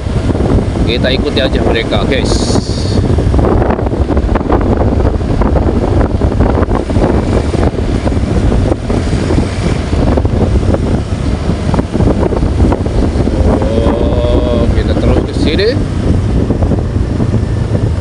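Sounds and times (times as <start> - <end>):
engine and road rumble: 0.0 - 18.0
wind buffeting microphone: 0.0 - 18.0.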